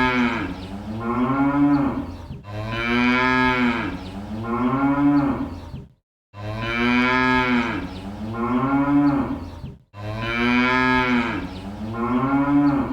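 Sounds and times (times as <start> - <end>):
cattle mooing: 0.0 - 5.5, 6.4 - 9.4, 10.0 - 12.9.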